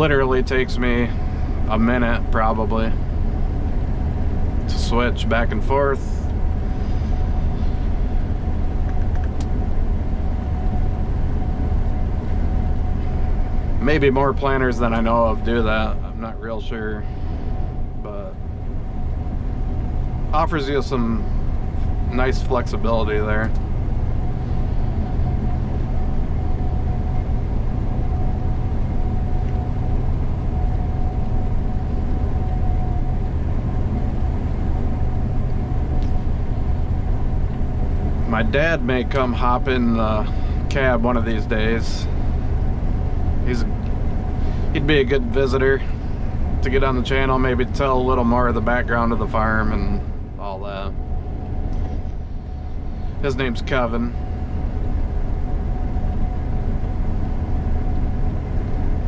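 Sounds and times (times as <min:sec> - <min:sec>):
combine harvester droning: 0:00.0 - 0:59.0
thin steady whine: 0:00.0 - 0:59.0.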